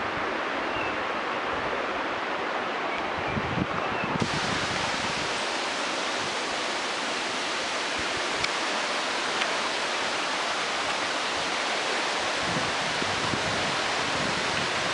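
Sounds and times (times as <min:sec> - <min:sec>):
water rushing at small waterfall: 0:00.0 - 0:14.9.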